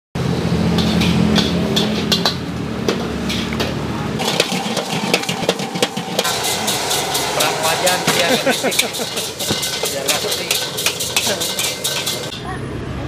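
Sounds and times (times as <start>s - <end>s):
metal spatula scraping wok: 0.5s - 12.4s.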